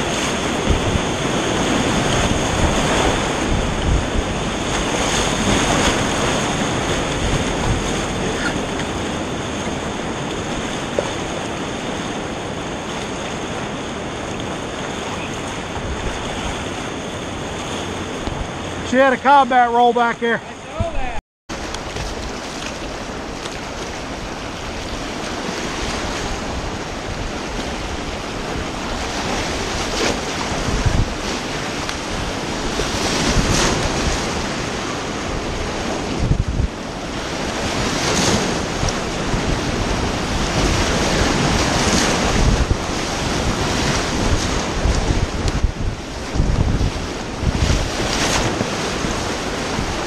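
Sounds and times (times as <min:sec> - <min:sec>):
wind buffeting microphone: 0:00.0 - 0:19.0, 0:20.7 - 0:50.0
waves splashing against boat: 0:00.0 - 0:50.0
whitewater rapids rushing: 0:00.0 - 0:50.0.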